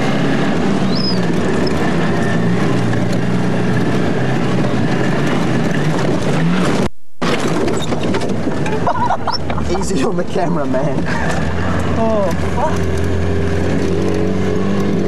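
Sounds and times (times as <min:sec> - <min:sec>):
car engine running under load: 0:00.0 - 0:15.0
tyre and road noise: 0:00.0 - 0:15.0.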